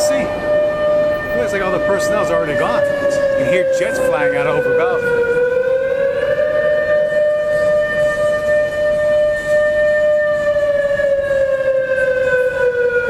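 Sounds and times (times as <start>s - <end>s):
civil defense siren wailing: 0.0s - 13.0s.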